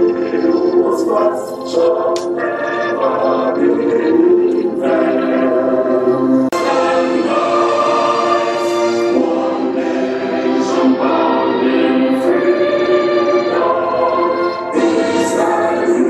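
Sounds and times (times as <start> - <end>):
large group singing in chorus: 0.0 - 16.0.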